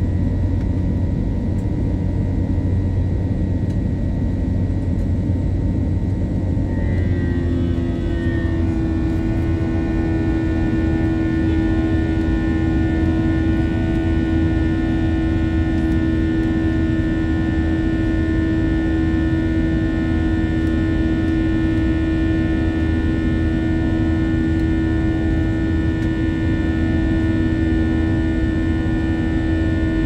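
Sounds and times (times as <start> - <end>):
jet engines droning: 0.0 - 30.0
high whine tones: 1.5 - 30.0.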